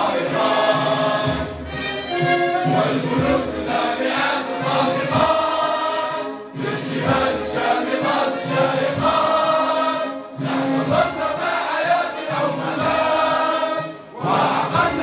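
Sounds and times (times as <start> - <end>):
men singing in unison: 0.0 - 1.6, 2.7 - 15.0.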